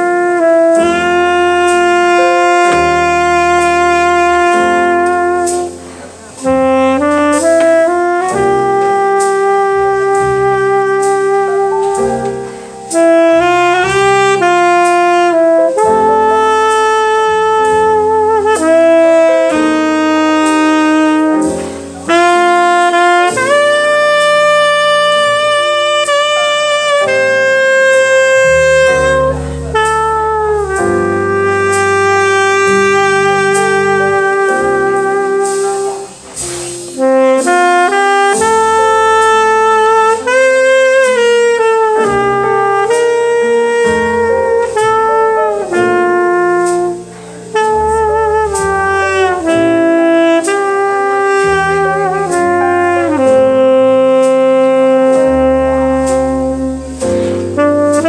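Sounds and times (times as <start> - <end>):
backing track with bass line: 0.0 - 58.0
tenor saxophone jazz melody: 0.0 - 58.0.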